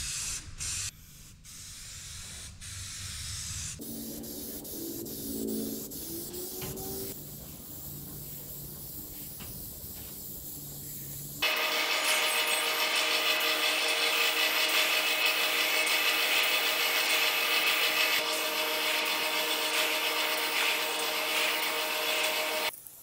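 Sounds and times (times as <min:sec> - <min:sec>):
aerosol can spraying: 0:00.0 - 0:22.8.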